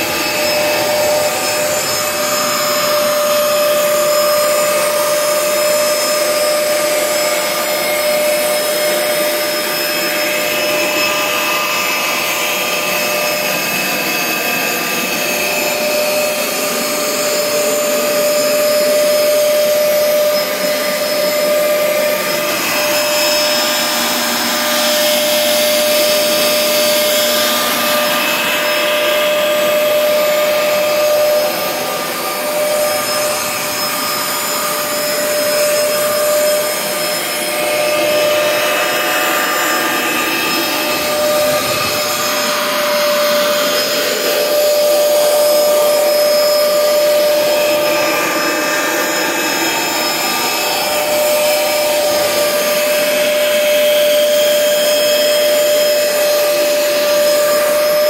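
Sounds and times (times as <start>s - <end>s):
carpet shampooer whining hum: 0.0s - 58.0s.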